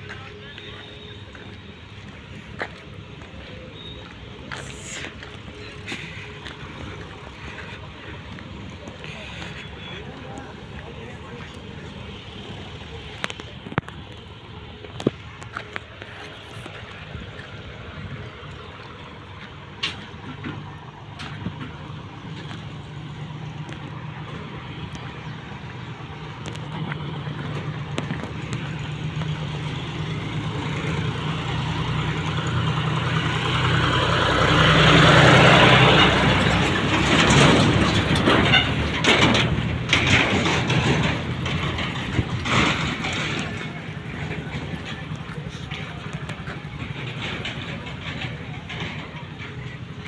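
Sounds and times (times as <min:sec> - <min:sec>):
diesel tractor engine running: 0:00.0 - 0:50.0
trailers knocking and rattling: 0:00.0 - 0:50.0.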